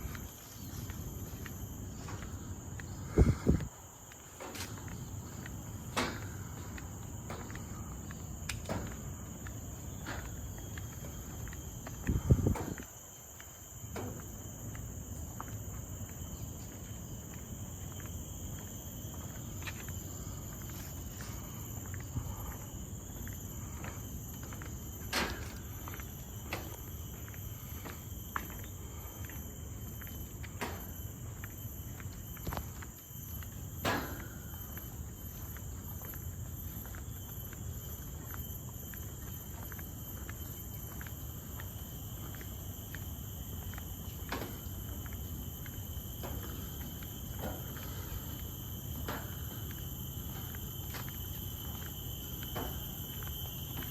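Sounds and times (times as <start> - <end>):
footsteps on a trail: 0.0 - 53.9
forest insects droning: 0.0 - 53.9.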